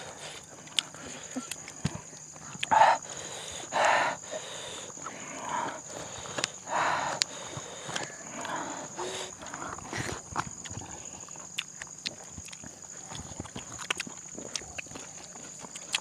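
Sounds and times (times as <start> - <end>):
crunchy cucumber bites and chewing: 0.0 - 2.8, 5.7 - 16.0.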